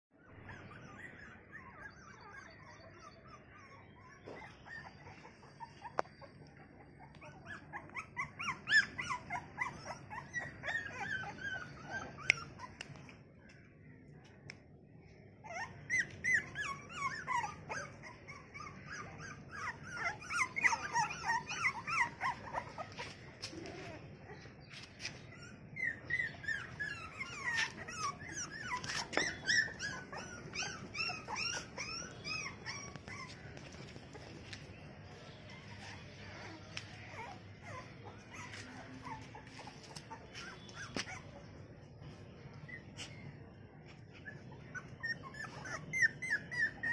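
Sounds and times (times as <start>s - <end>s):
puppies squealing and whimpering: 0.2s - 13.2s, 15.4s - 46.9s.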